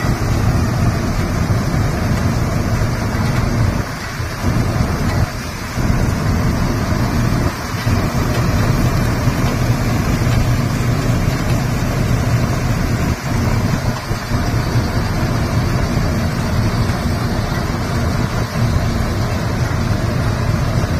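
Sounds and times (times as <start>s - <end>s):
combine harvester droning: 0.0s - 20.9s
grain streaming into trolley: 0.0s - 20.9s.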